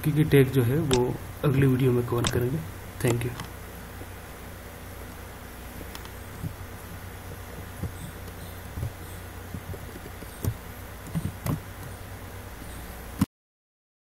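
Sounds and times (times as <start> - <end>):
low hum and hiss: 0.0 - 13.3.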